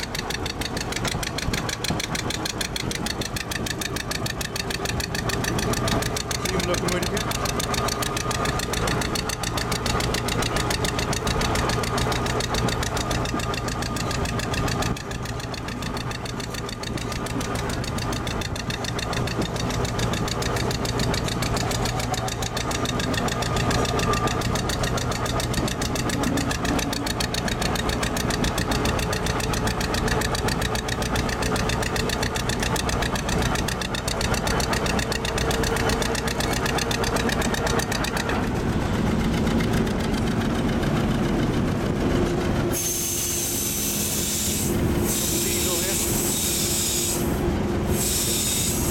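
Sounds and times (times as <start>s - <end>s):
diesel locomotive engine clattering: 0.0s - 48.9s.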